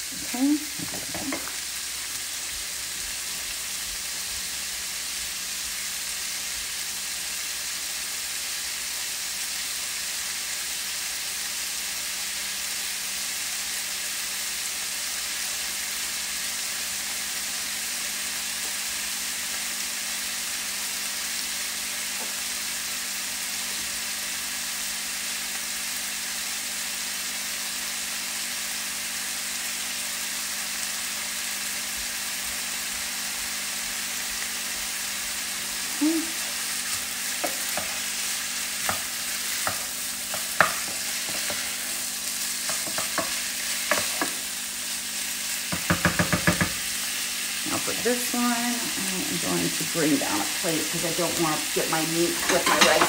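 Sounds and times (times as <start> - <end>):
chicken sizzling in a pan: 0.0 - 53.0.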